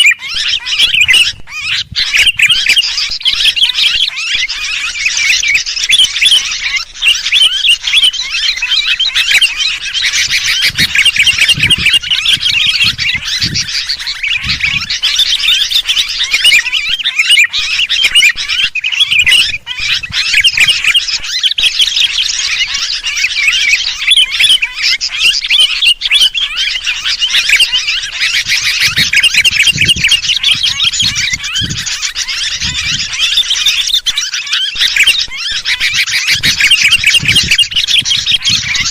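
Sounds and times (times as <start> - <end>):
flock of birds chattering: 0.0 - 38.9.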